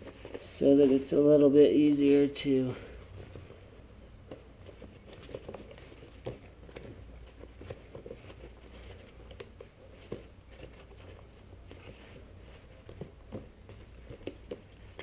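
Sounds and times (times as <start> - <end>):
nylon fabric rustling: 0.0 - 15.0.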